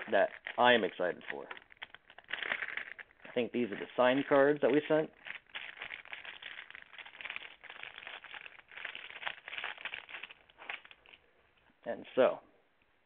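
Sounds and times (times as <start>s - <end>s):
packaging rustling and crinkling: 0.0s - 11.2s.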